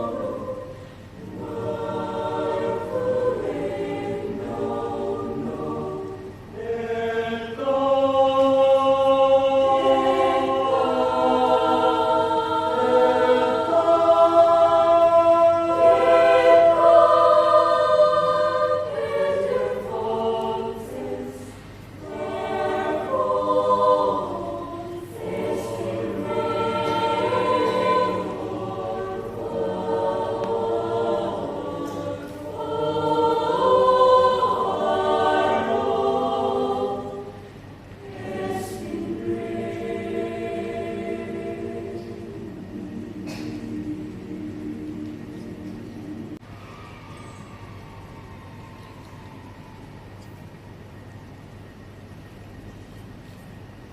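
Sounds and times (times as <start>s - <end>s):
youth choir singing: 0.0s - 50.4s.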